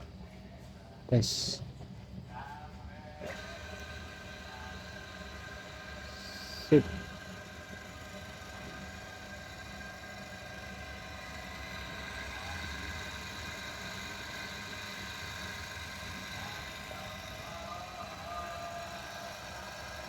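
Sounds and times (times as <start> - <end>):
electric motor humming and whining: 3.0 - 20.0.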